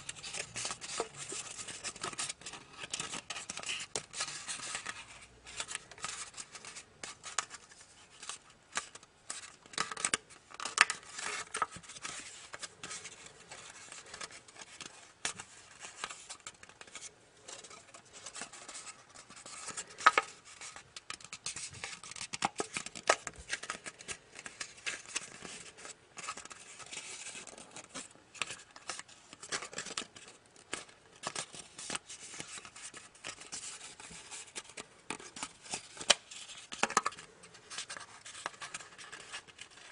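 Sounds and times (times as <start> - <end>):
paper being folded and crinkled: 0.0 - 39.9.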